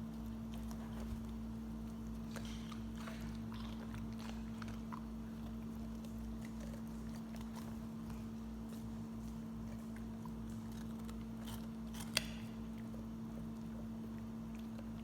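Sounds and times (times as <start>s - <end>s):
dog chewing a carrot: 0.0s - 15.0s
steady low hum: 0.0s - 15.0s.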